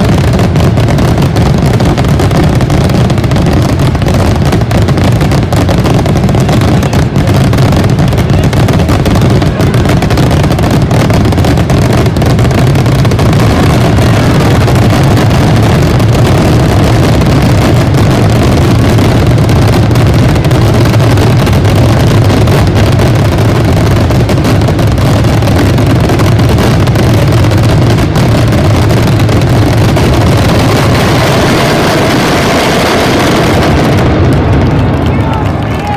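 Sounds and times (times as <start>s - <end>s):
fireworks bangs and cracks: 0.0s - 35.9s.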